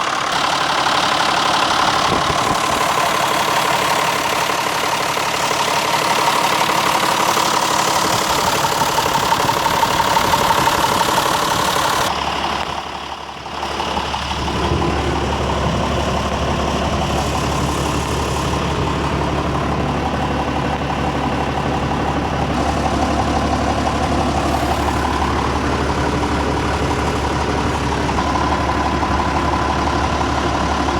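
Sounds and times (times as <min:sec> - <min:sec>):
tractor diesel engine idling: 0:00.0 - 0:30.9.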